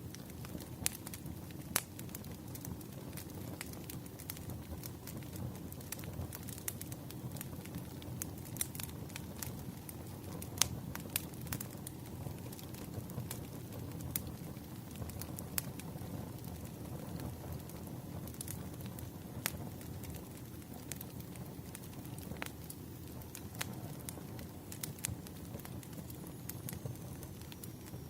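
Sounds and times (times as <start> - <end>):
firewood crackling and popping: 0.0 - 28.0.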